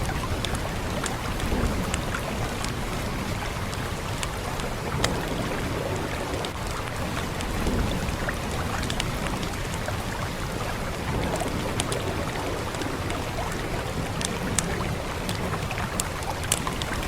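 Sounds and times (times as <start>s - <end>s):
rain hissing: 0.0s - 17.0s
wood fire crackling and popping: 0.0s - 17.0s.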